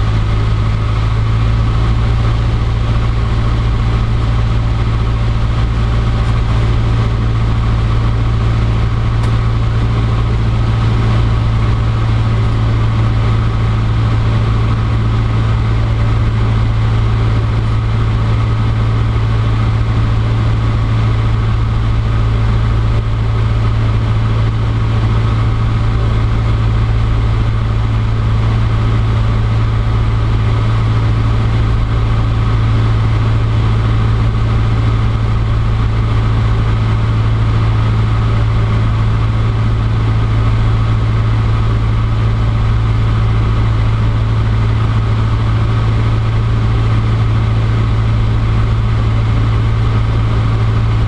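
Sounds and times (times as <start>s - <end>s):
airplane engine droning: 0.0s - 51.0s.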